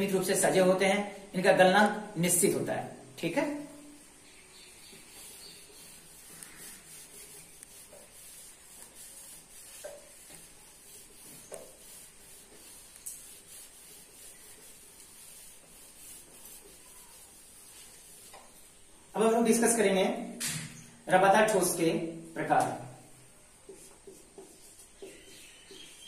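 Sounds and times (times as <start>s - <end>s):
rubbing strokes on whiteboard: 2.9s - 19.4s, 21.5s - 26.0s.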